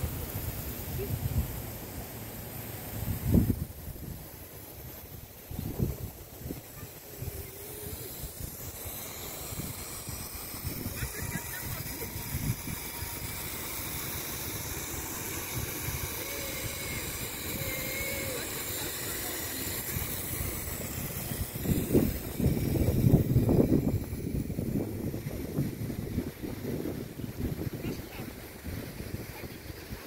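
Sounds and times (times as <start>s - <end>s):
lawn sprinkler spray hiss: 0.0s - 30.0s
wind buffeting microphone: 3.0s - 30.0s.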